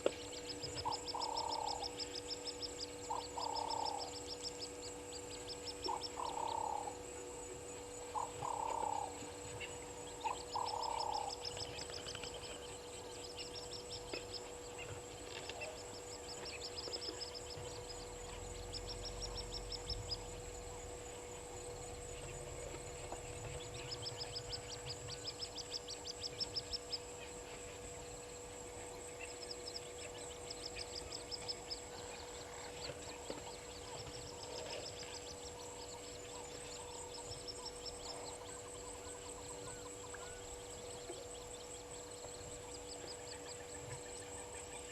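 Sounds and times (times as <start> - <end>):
faint hum: 0.0 - 44.9.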